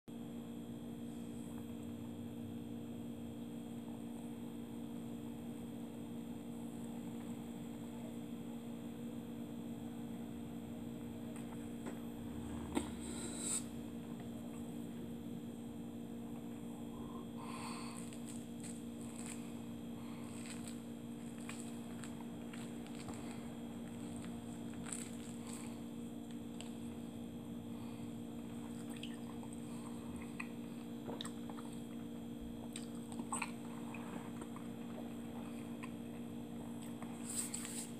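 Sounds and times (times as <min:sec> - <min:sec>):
electrical hum: 0:00.1 - 0:37.9.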